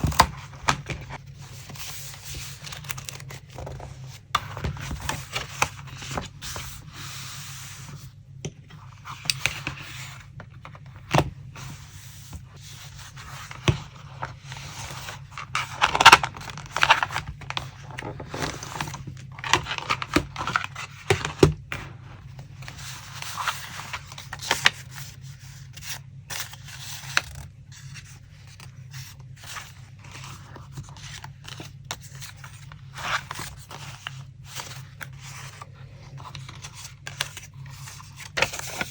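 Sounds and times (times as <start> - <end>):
paper scraping and rustling: 0.0 - 8.0, 11.5 - 38.9.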